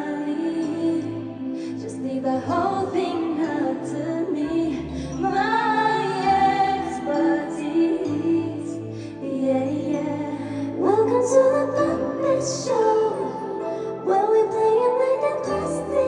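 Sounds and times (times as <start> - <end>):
female voices singing: 0.0 - 16.0
instrumental backing with bass: 0.6 - 16.0.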